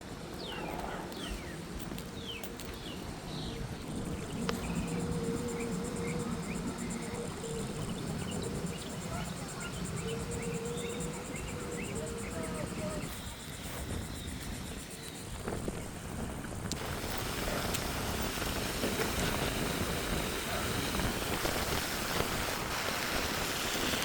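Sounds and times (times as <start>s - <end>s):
high insect trill: 0.1s - 24.0s
wind on microphone: 0.2s - 24.0s.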